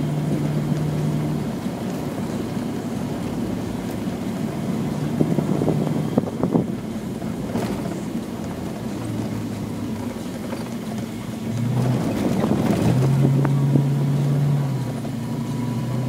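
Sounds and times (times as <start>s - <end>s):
tyres rumbling on gravel: 0.0s - 15.4s
car engine running: 0.0s - 16.0s.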